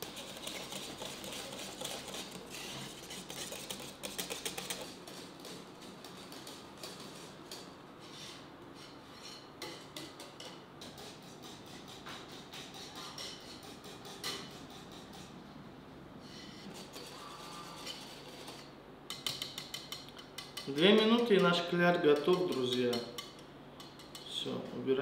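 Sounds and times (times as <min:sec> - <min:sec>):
whisk beating batter in bowl: 0:00.0 - 0:15.4, 0:16.6 - 0:24.6.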